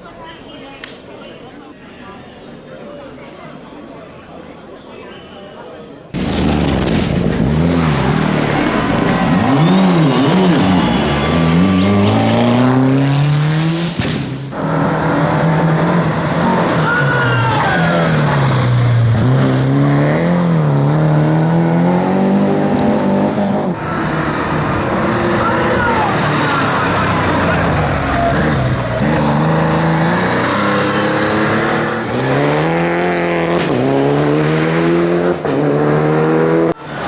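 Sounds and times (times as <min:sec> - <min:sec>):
rally car engines revving: 0:06.1 - 0:37.0.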